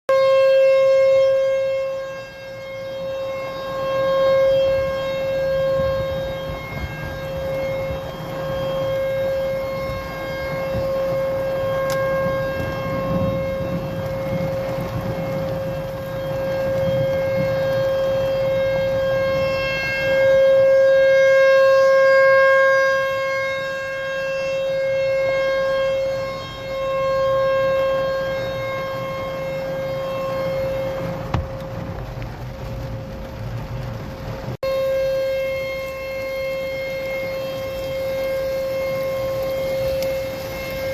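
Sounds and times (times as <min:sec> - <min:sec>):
warning siren steady tone: 0:00.1 - 0:40.9.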